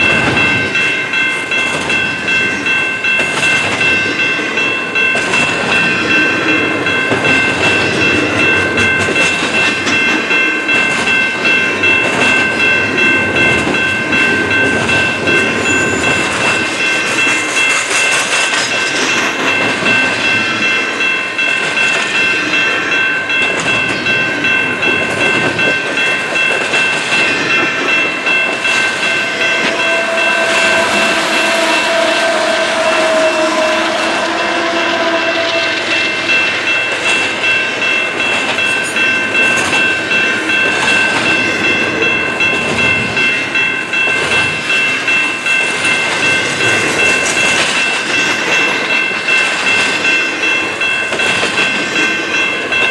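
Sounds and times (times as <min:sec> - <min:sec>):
crossing warning bell ringing: 0:00.0 - 0:52.9
freight train cars clicking over rails: 0:00.0 - 0:52.9.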